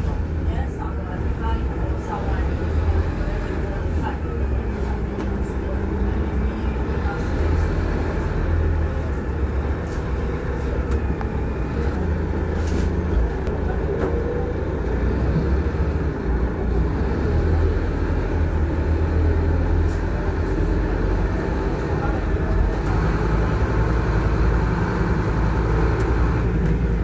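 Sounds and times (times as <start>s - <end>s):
bus body rattling: 0.0s - 27.0s
bus engine and road rumble: 0.0s - 27.0s.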